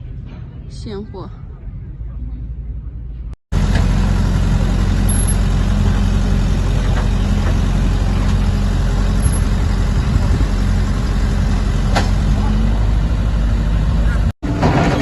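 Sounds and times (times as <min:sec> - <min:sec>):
diesel engine droning: 0:01.4 - 0:15.0.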